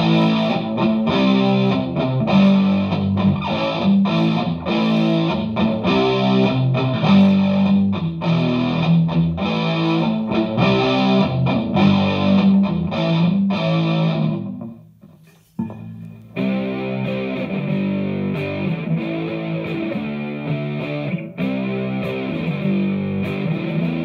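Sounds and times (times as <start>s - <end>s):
distorted electric guitar riff: 0.0s - 14.8s, 15.6s - 24.0s.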